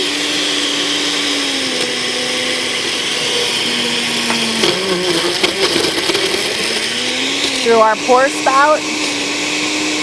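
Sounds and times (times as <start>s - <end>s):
blender running on high: 0.0s - 10.0s.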